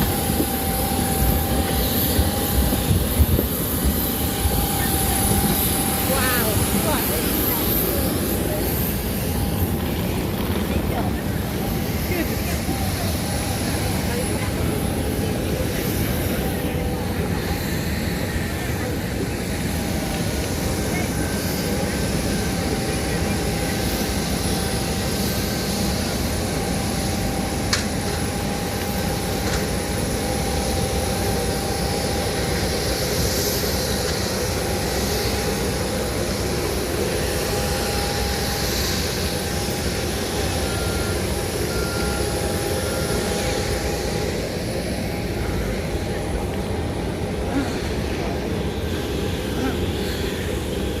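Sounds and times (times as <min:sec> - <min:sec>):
constant whine: 0:00.0 - 0:51.0
jet engine cabin noise: 0:00.0 - 0:51.0.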